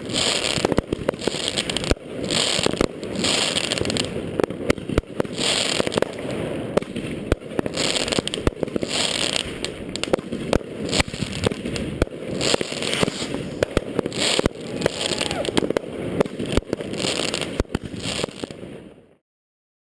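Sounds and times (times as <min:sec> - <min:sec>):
firecracker bangs: 0:00.0 - 0:18.8
fireworks hissing: 0:00.0 - 0:19.0
fireworks crackling: 0:00.0 - 0:19.2.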